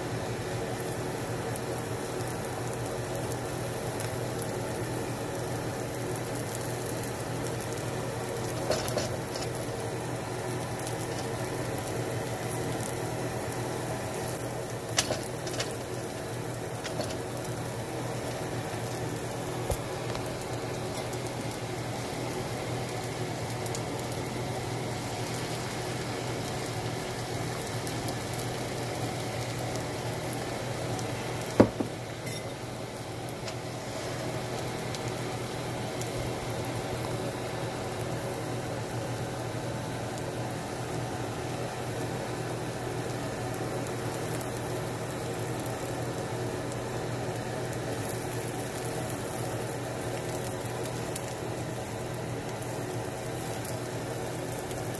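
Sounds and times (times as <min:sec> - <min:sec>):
food sizzling in a skillet: 0:00.0 - 0:54.9.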